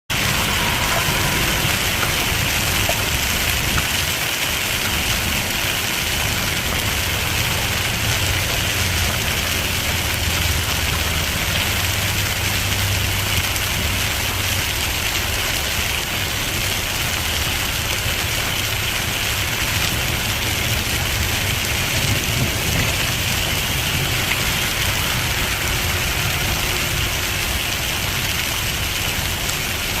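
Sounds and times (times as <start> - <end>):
engine and road rumble: 0.1 - 30.0
hail drumming on car roof: 0.1 - 30.0.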